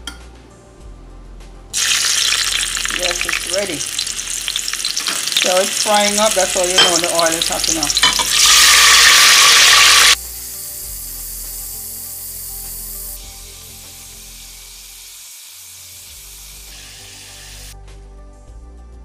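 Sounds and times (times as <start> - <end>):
background music: 0.0 - 15.0, 15.7 - 19.0
tomato sizzling in hot oil: 1.8 - 17.8.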